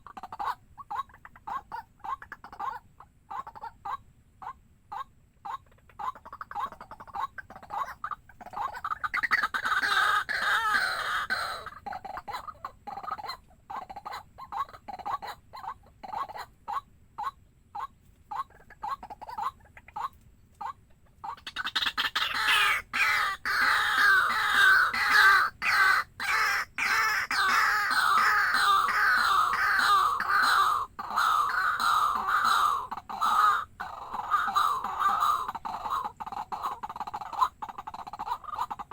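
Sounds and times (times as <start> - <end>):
waterhen calling and chattering: 0.0 - 38.9.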